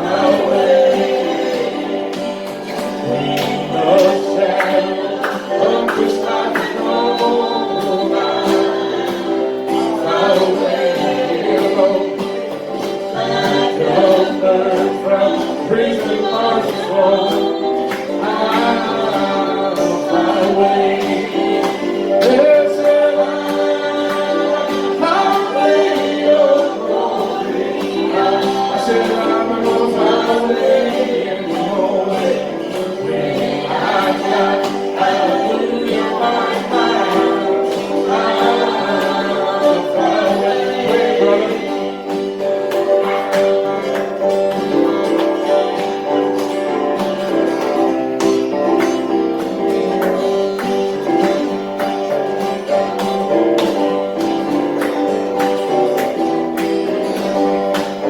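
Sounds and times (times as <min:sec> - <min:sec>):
group singing a hymn: 0:00.0 - 0:58.0.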